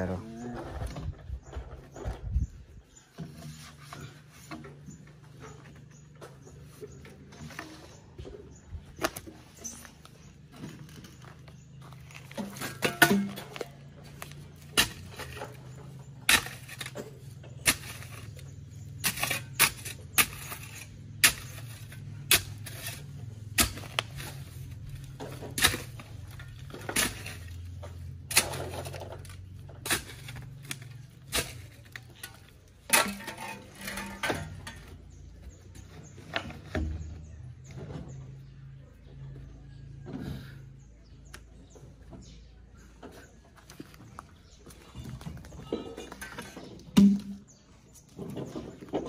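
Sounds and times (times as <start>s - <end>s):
hoe striking and scraping soil: 0.0s - 38.2s, 43.0s - 49.0s.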